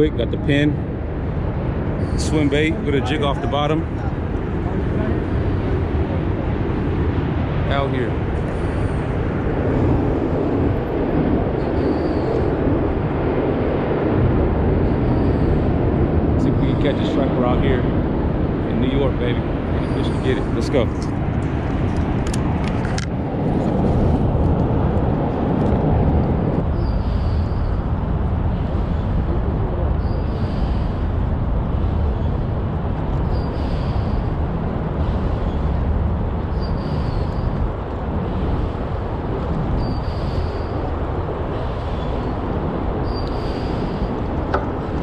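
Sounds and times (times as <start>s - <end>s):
city traffic rumble: 0.0s - 45.0s.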